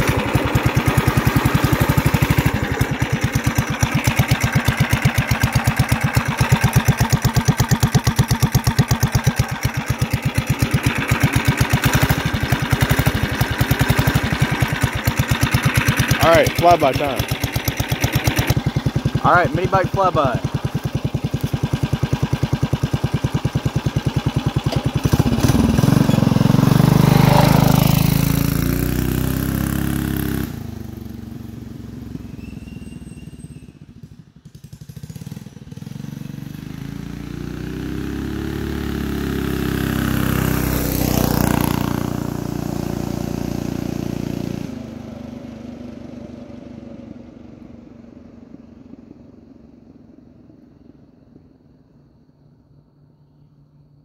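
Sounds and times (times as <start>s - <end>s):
mini bike engine passing: 0.0s - 51.7s.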